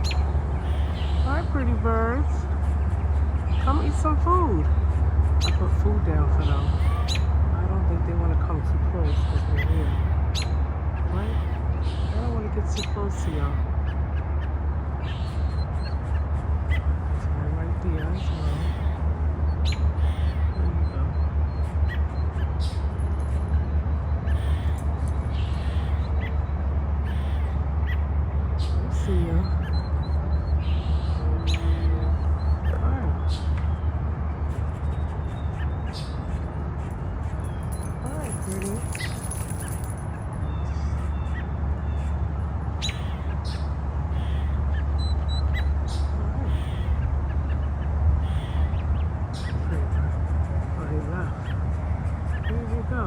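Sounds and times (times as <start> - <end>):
steady low rumble: 0.0 - 53.0
wild birds chirping and calling: 0.0 - 53.0.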